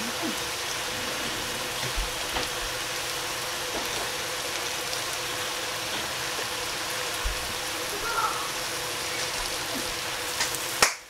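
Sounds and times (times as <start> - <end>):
lettuce sizzling in a pot: 0.0 - 11.0.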